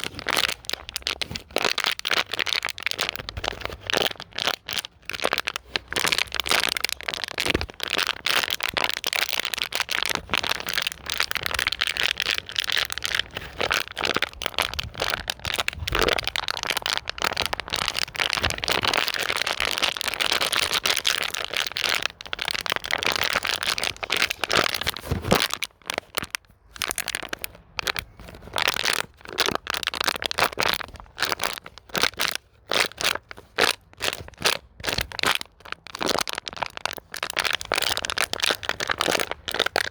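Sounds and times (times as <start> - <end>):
plastic bottle crinkling: 0.0 - 39.9.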